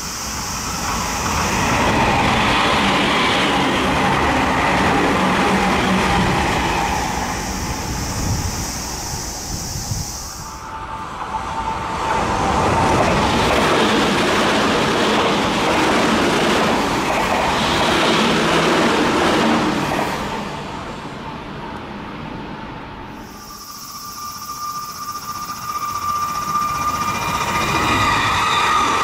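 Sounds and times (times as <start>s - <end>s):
electric train passing at speed: 0.0s - 29.0s.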